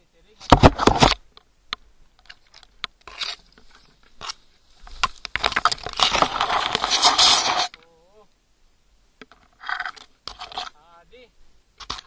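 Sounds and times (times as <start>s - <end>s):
tall grass rustling: 0.0s - 12.0s.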